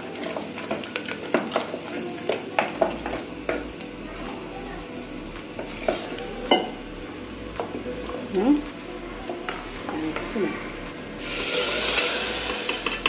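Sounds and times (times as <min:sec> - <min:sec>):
thick gravy bubbling in a pot: 0:00.0 - 0:08.0, 0:09.1 - 0:13.0.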